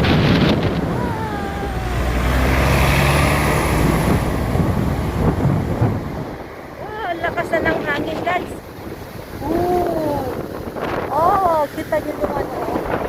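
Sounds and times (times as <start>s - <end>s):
bus engine humming: 0.0s - 10.6s.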